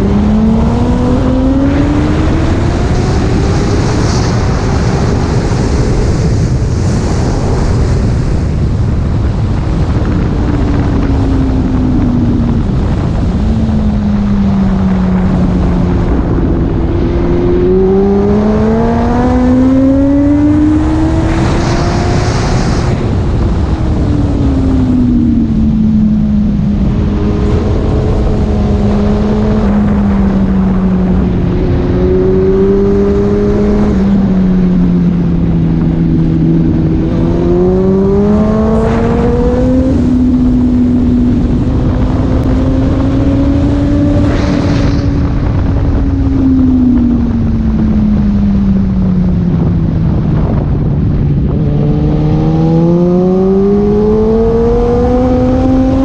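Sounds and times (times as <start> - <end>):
heavy wind noise: 0.0 - 56.0
motorcycle engine at speed: 0.0 - 56.0.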